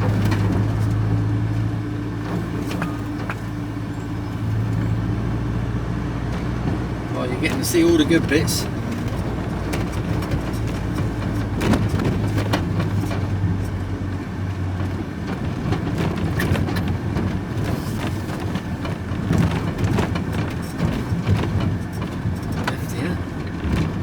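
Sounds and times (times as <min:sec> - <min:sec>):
knocks and rattles: 0:00.0 - 0:05.0, 0:06.2 - 0:13.8, 0:14.8 - 0:24.0
vehicle engine and road drone: 0:00.0 - 0:24.0.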